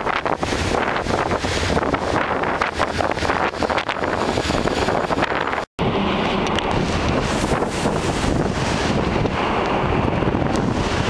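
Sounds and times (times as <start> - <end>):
heavy seas rushing: 0.0 - 11.0
storm wind buffeting microphone: 0.0 - 11.0.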